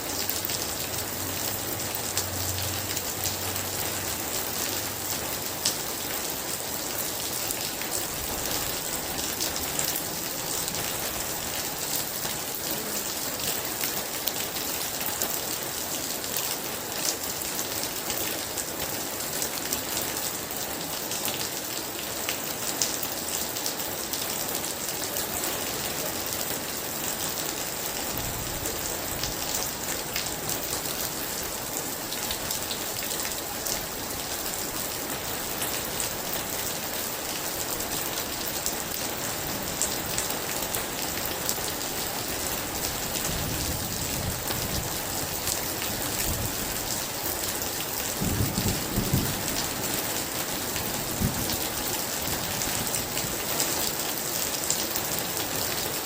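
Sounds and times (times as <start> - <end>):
very heavy rain: 0.0 - 56.0.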